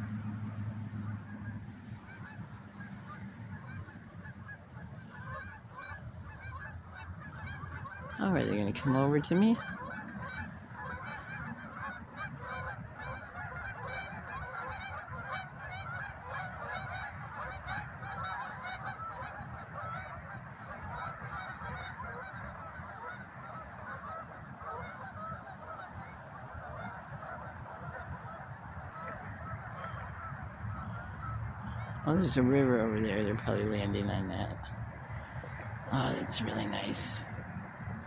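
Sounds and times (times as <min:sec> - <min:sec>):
flock of geese honking: 0:00.0 - 0:38.0.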